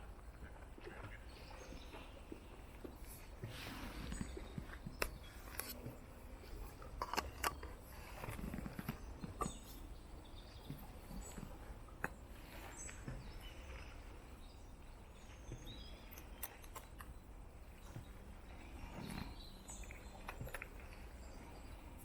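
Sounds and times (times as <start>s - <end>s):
low steady background: 0.0s - 22.0s.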